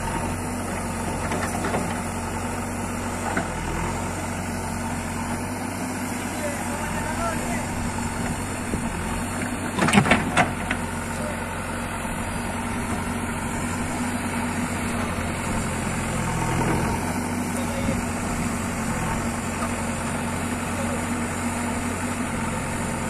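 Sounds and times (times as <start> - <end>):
backhoe diesel engine running: 0.0 - 23.0.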